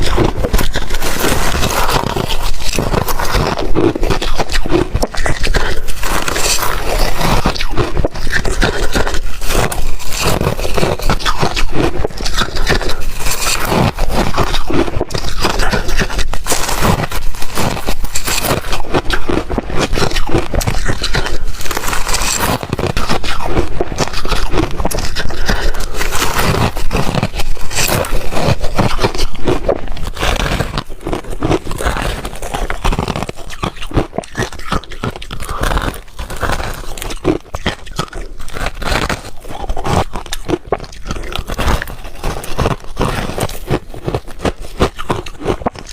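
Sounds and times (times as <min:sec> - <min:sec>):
person crunching ice: 0:00.0 - 0:45.9.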